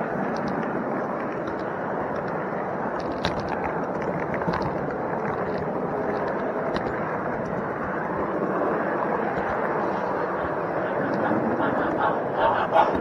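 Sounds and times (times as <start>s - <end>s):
wheels clicking over rail joints: 0.0s - 13.0s.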